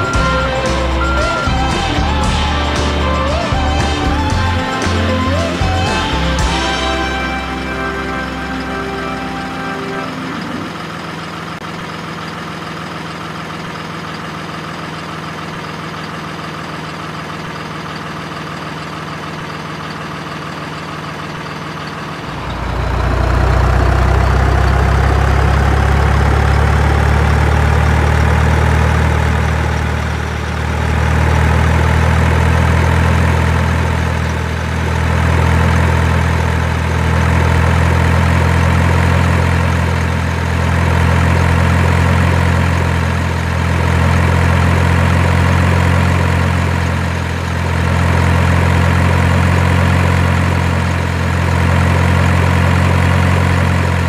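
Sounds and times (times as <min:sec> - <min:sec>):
deep diesel engine running: 0:00.0 - 0:54.0
truck engine idling: 0:00.0 - 0:54.0.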